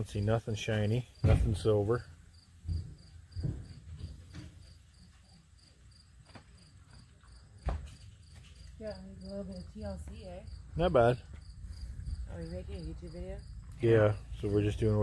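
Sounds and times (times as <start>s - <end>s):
faint insects chirping: 0.0s - 15.0s.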